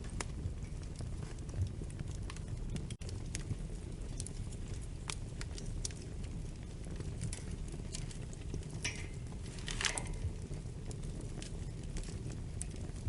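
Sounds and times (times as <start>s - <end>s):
fire flames rumbling: 0.0s - 13.0s
fire popping and snapping: 0.0s - 13.0s.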